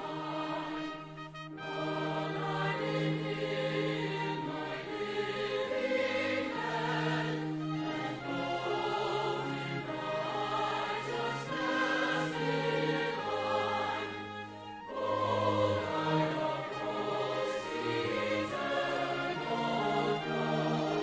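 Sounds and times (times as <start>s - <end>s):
choir singing a hymn: 0.0s - 21.0s.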